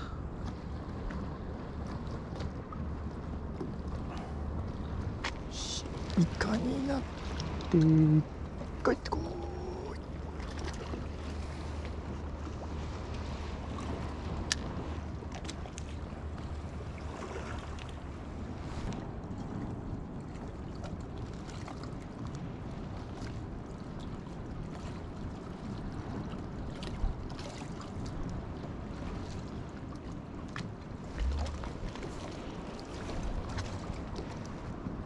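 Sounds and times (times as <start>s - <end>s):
sea water washing: 0.0s - 35.0s
wind buffeting microphone: 0.0s - 35.0s.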